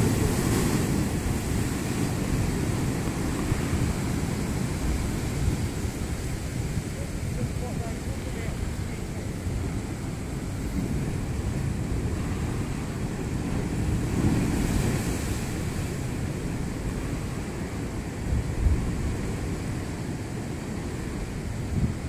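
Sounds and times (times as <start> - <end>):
ocean surf against rocks: 0.0 - 22.0
wind buffeting microphone: 0.0 - 22.0.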